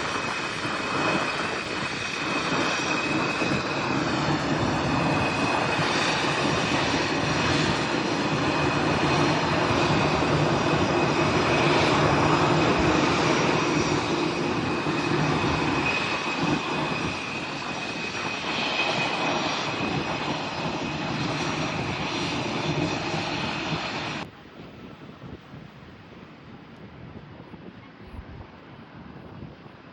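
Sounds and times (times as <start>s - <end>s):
airliner engines roaring: 0.0s - 29.9s.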